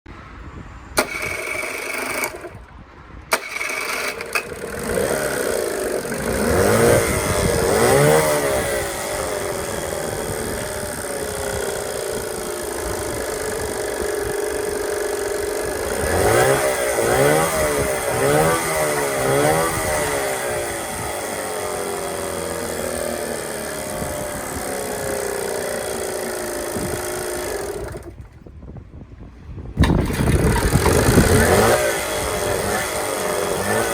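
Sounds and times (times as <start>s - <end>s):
outboard motor starting and idling: 1.0s - 2.7s, 3.3s - 28.5s, 29.8s - 33.9s.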